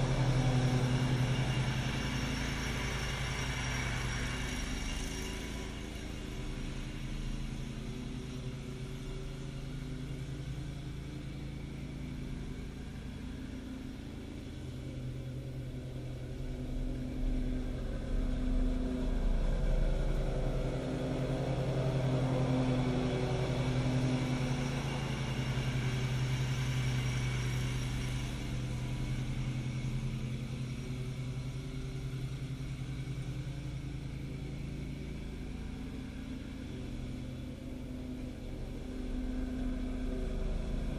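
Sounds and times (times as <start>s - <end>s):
vehicle engine hum: 0.0s - 40.9s.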